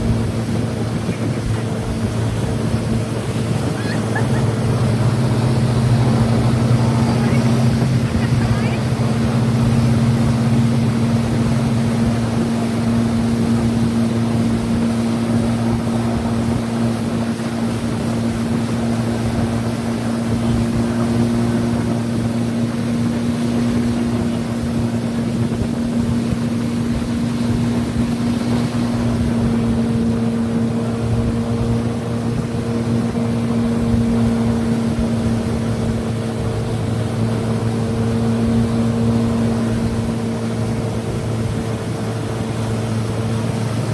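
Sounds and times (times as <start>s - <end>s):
motorboat engine humming: 0.0s - 43.9s
rushing water: 0.0s - 43.9s
wind noise: 0.0s - 43.9s.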